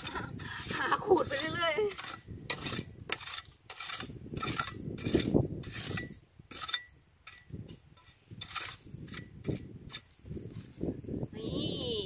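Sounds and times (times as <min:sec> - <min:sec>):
metal rake scraping through gravel: 0:00.0 - 0:10.2.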